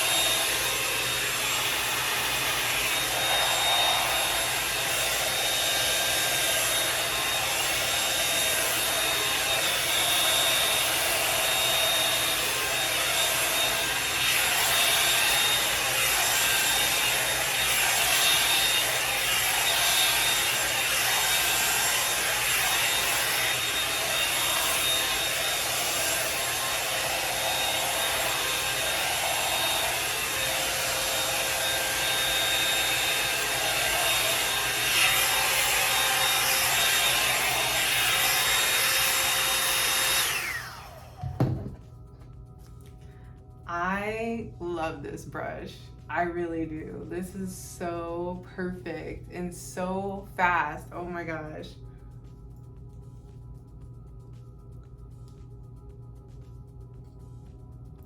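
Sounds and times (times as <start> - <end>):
hair dryer fan whining: 0.0 - 58.0.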